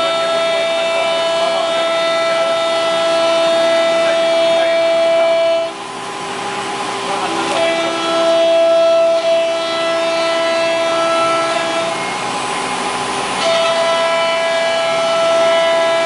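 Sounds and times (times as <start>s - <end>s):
cnc router whining: 0.0s - 16.0s.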